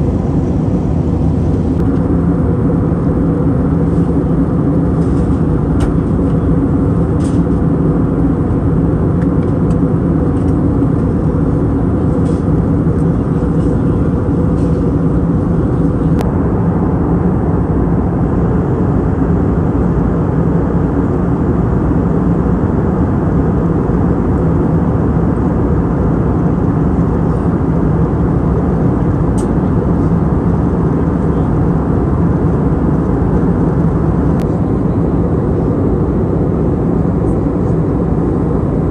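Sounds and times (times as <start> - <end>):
airliner cabin noise: 0.0 - 38.9.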